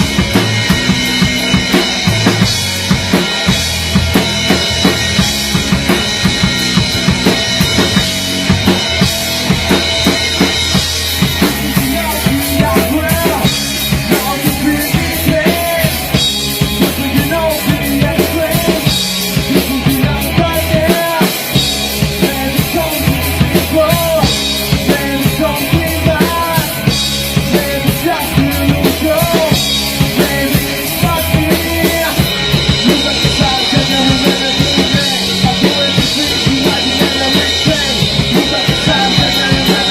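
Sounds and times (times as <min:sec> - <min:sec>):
band playing: 0:00.0 - 0:39.9
drum kit beat: 0:00.0 - 0:39.9.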